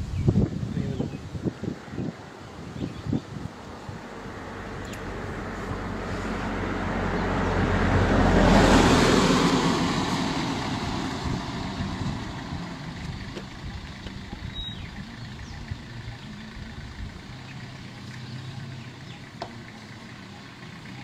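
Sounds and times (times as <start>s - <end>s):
motor vehicle passing: 1.4s - 21.0s.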